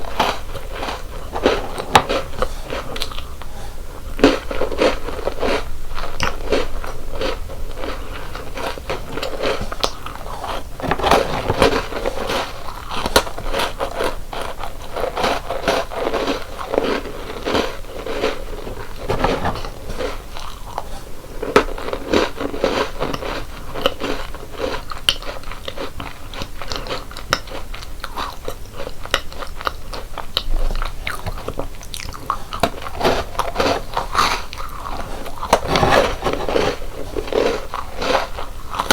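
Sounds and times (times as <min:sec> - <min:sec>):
crunchy biscuits being chewed: 0:00.0 - 0:38.9.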